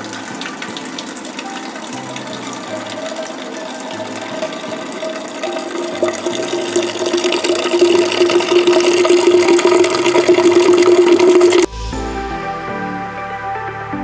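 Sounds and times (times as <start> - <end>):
liquid pouring into a keg: 0.0 - 11.7.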